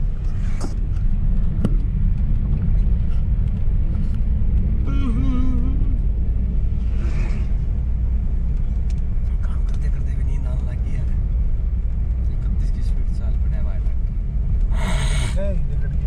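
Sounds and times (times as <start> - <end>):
car cabin road rumble: 0.0 - 16.0.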